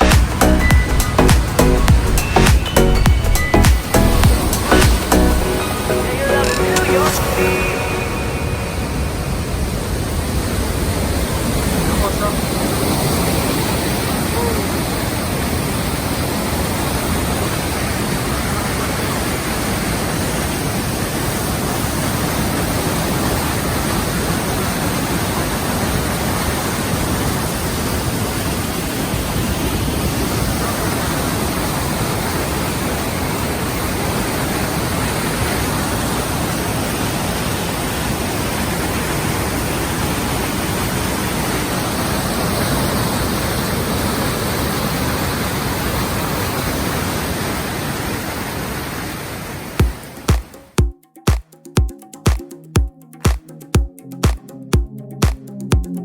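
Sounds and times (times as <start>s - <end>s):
steady rushing noise: 0.0s - 51.4s.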